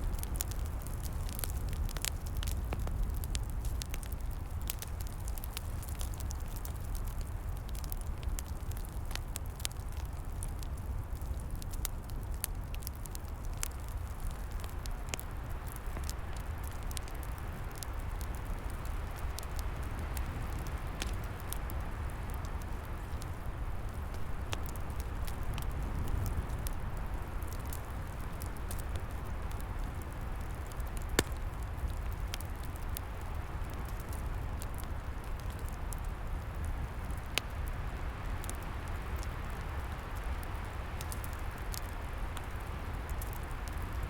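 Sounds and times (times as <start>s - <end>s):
log fire crackling: 0.0s - 44.0s.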